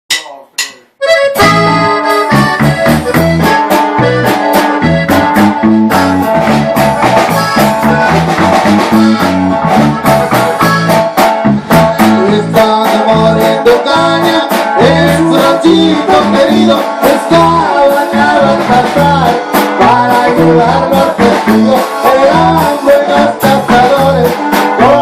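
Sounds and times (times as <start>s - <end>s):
bass line: 0.1s - 25.0s
strummed guitar: 0.2s - 25.0s
accordion melody: 1.0s - 25.0s.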